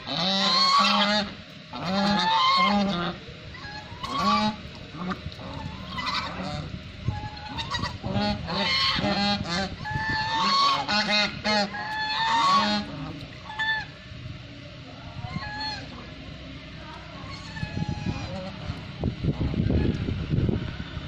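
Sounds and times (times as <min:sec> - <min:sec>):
geese honking: 0:00.0 - 0:14.2, 0:15.2 - 0:16.3, 0:17.1 - 0:18.9.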